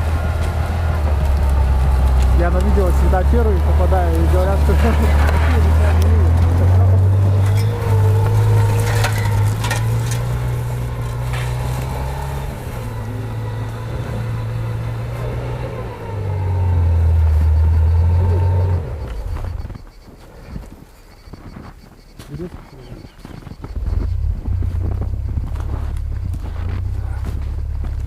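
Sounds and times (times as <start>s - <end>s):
engine running under load: 0.0s - 19.8s, 23.6s - 28.0s.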